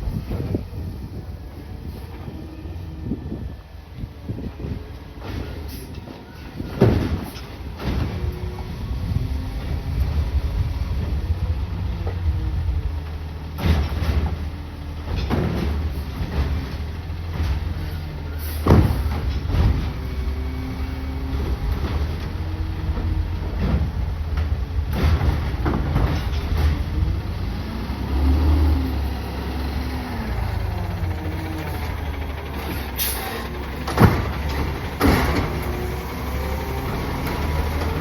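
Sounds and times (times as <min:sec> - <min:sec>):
garbage truck engine rumble: 0:00.0 - 0:38.0.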